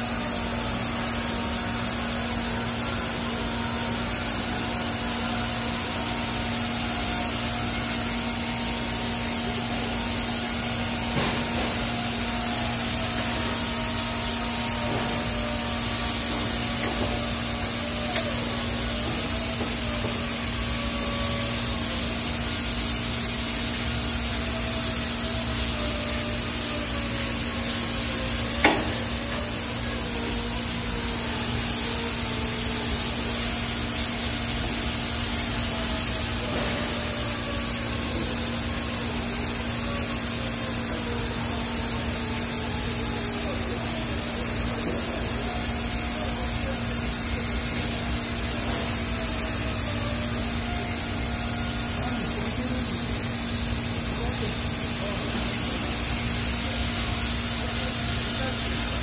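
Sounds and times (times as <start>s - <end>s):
welding arc hissing and humming: 0.0s - 59.0s.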